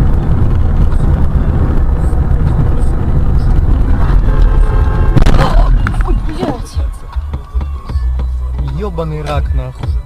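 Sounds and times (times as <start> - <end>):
vehicle rumbling on the move: 0.0 - 10.0.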